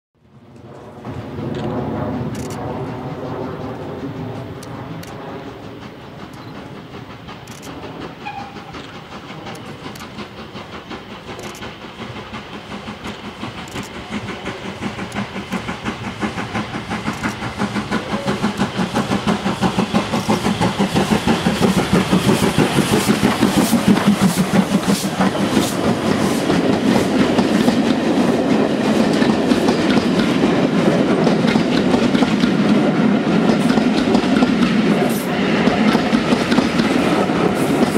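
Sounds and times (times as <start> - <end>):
steam locomotive exhaust beating: 0.3 - 37.9
train wheels clicking on rail joints: 0.4 - 37.9.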